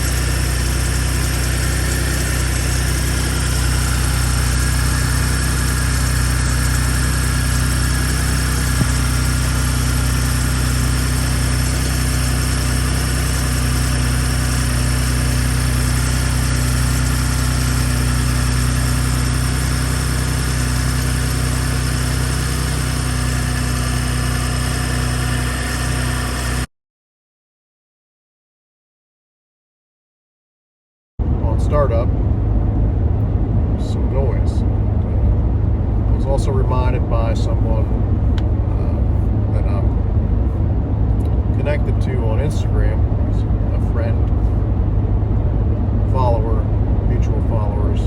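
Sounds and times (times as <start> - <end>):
truck engine idling: 0.0 - 26.7, 31.2 - 48.0.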